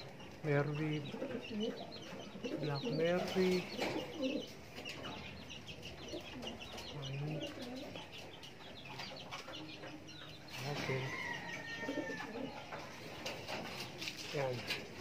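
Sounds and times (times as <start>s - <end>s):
birds chirping: 0.0s - 15.0s
pigeon cooing: 0.0s - 15.0s.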